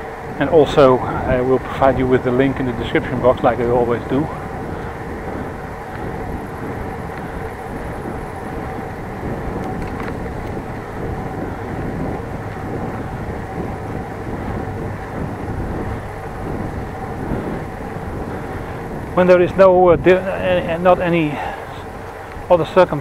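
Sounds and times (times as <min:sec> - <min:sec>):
tyre rumble on asphalt: 0:00.0 - 0:23.0
wind on microphone: 0:00.0 - 0:23.0.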